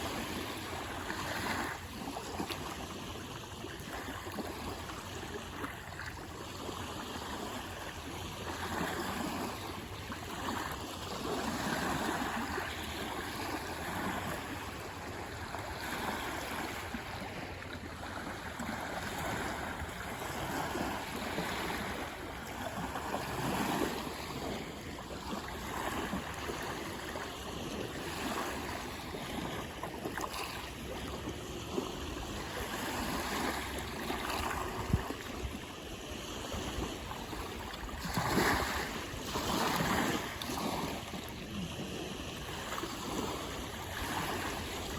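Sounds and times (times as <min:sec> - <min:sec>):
waves washing against shore: 0:00.0 - 0:44.9.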